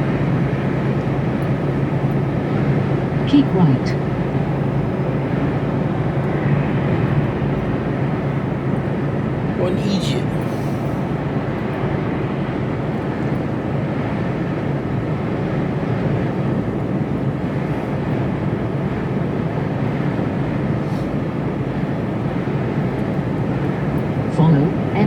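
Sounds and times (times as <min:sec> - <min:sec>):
lorry engine and road drone: 0:00.0 - 0:25.0.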